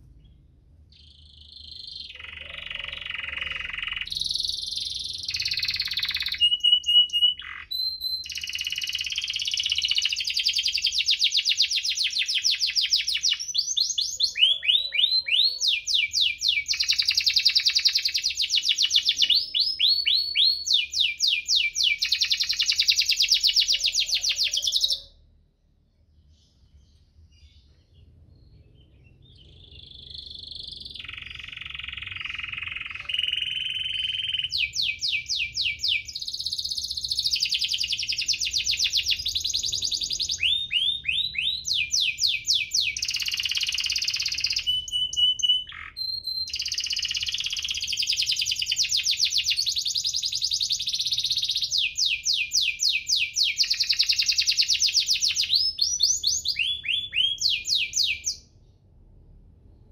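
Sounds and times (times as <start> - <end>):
canary singing trills: 0.0 - 25.3, 26.1 - 58.5.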